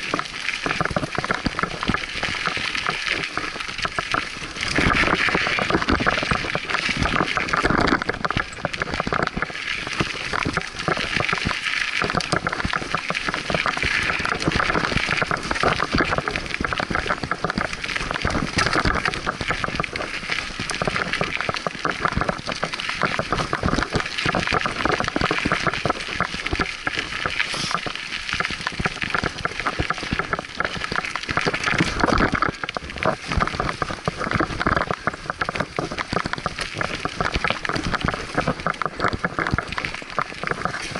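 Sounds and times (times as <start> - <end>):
bike tyres rolling over dirt: 0.0 - 40.9.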